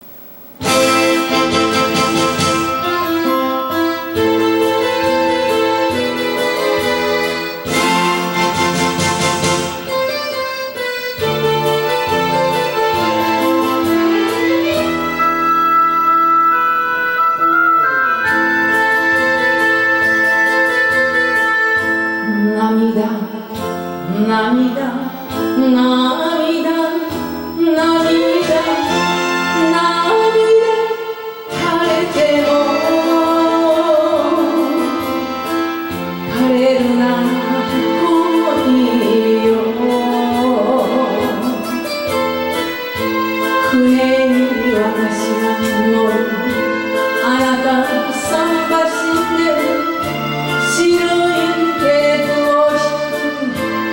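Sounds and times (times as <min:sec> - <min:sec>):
karaoke band with strings: 0:00.0 - 0:53.9
vibrato lead melody: 0:00.4 - 0:53.9.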